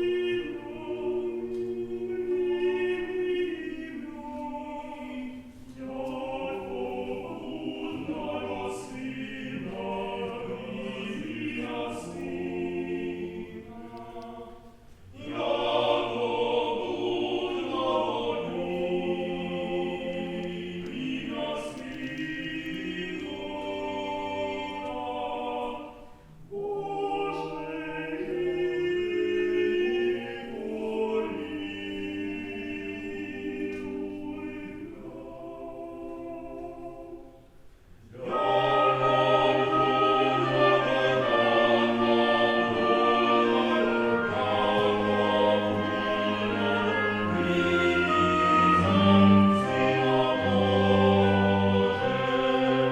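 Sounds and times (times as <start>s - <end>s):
choir singing unaccompanied: 0.0s - 52.9s.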